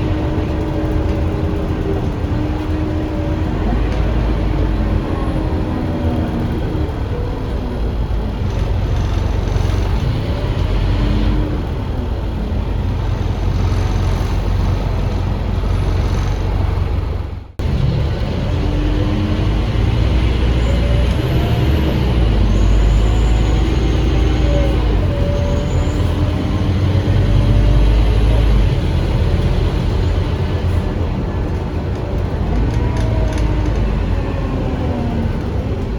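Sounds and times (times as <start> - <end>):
bus diesel engine: 0.0 - 35.9
road noise: 0.0 - 35.9.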